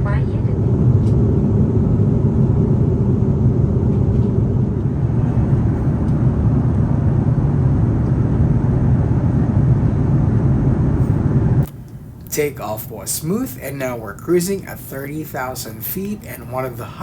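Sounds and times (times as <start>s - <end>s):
aircraft engines rumbling in cabin: 0.0s - 17.0s.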